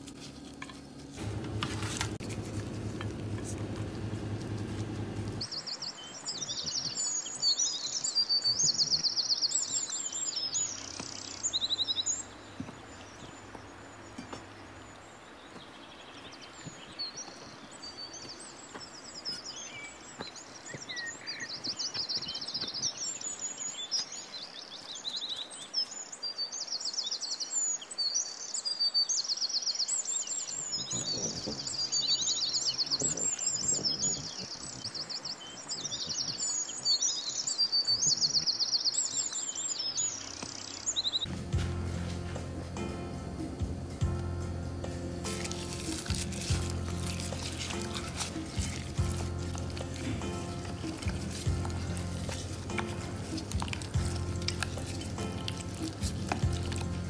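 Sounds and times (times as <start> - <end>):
birds chirping and trilling: 1.2 - 57.0.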